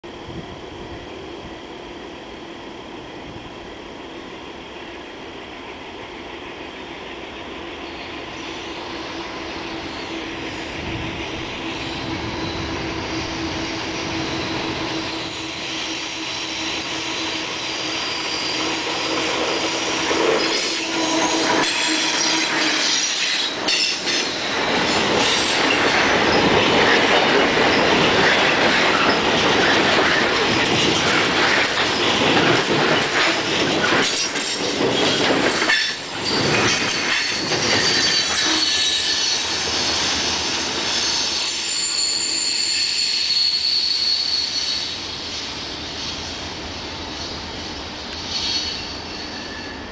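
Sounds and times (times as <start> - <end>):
diesel locomotives rumbling: 0.1 - 49.9
rail singing tones: 0.2 - 49.9
train wheels squealing: 7.8 - 49.9.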